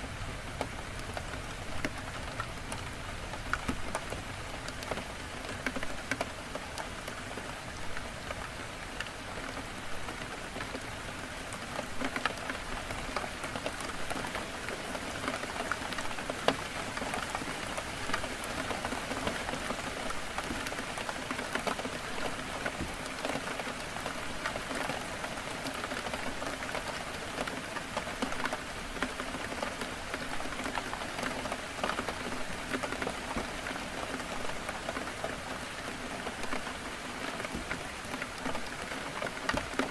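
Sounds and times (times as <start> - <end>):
heavy rain on a window: 0.0 - 39.9
raindrops ticking: 0.0 - 39.9.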